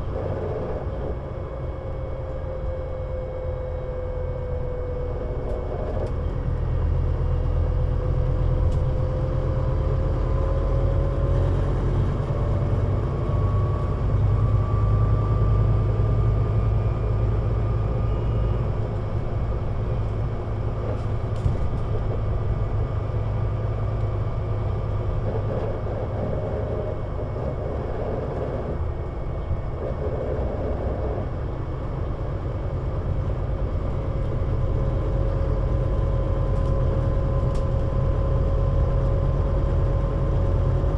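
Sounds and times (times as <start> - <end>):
bus engine rumbling: 0.0 - 40.9
drivetrain whine: 0.0 - 40.9.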